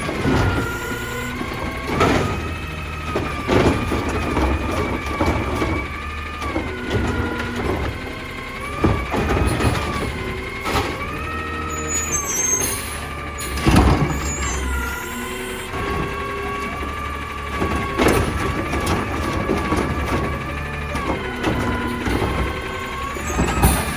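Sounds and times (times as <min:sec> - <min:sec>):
garbage truck whine: 0:00.0 - 0:23.9
knocks and bangs: 0:00.0 - 0:23.9.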